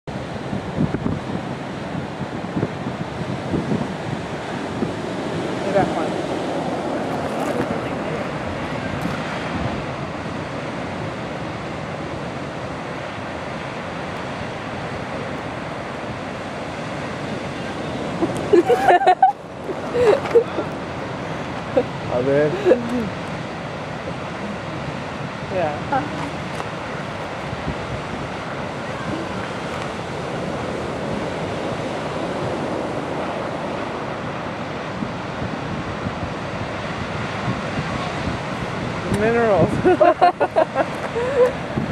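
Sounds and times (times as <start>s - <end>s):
ocean waves breaking on beach: 0.0s - 41.9s
wind gusting on microphone: 0.1s - 41.9s.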